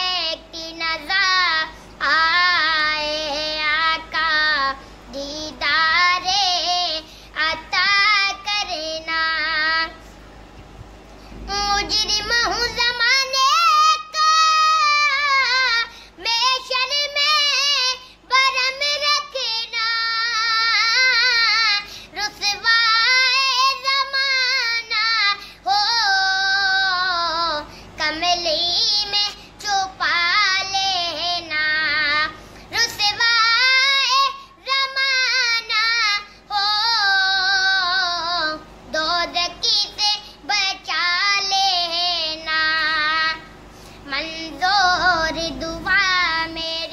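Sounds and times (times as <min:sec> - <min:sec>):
person singing unaccompanied: 0:00.0 - 0:10.0, 0:11.4 - 0:46.9.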